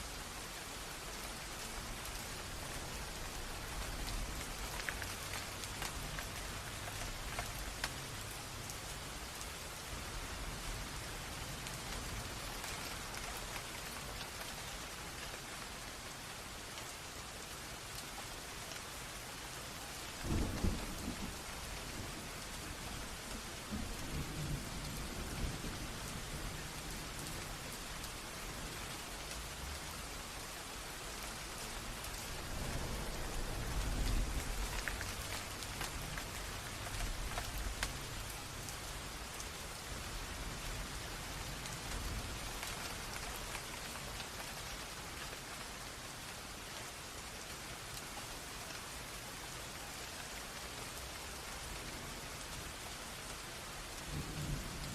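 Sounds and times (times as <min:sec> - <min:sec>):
small stream rushing: 0:00.0 - 0:20.3, 0:26.0 - 0:54.0
steady rain: 0:00.0 - 0:54.9.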